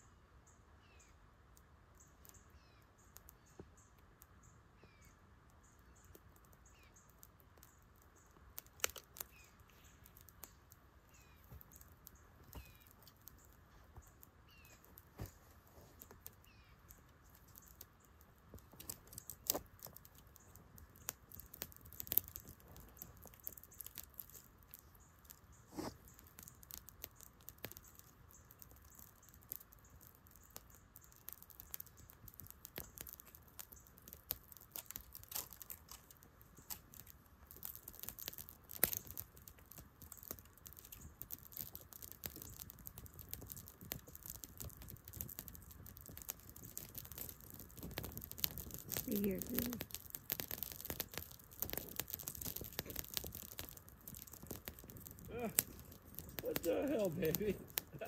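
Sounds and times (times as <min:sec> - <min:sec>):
fire crackling: 0:00.0 - 0:58.0
fire snapping loudly: 0:06.1 - 0:58.0.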